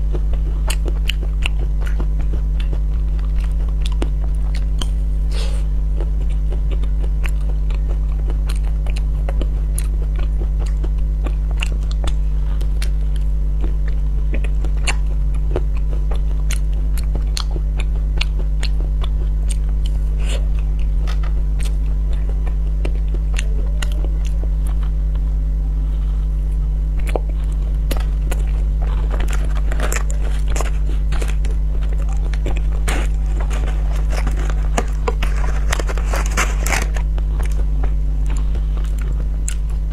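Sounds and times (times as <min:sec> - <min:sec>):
crunchy ice cream bar chewing: 0:00.0 - 0:39.9
steady low hum: 0:00.0 - 0:39.9.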